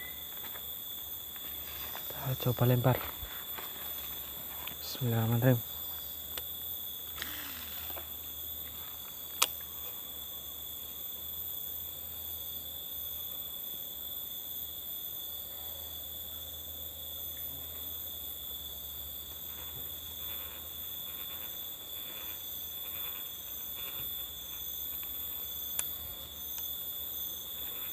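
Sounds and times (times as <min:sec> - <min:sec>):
crickets chirring: 0:00.0 - 0:27.9.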